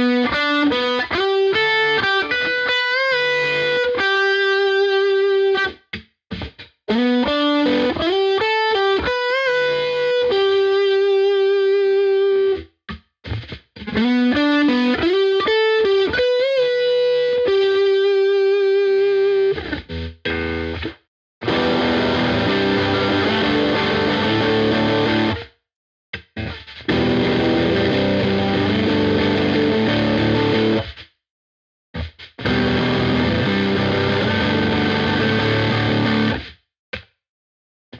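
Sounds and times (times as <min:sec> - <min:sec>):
distorted electric guitar: 0:00.0 - 0:12.6, 0:13.2 - 0:25.5, 0:26.2 - 0:31.0, 0:32.0 - 0:36.5.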